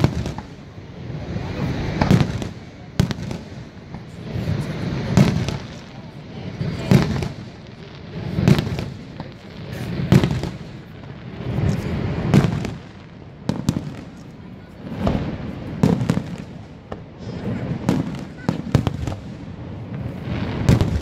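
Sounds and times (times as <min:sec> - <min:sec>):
firework shells booming: 0:00.0 - 0:00.8, 0:01.5 - 0:21.0.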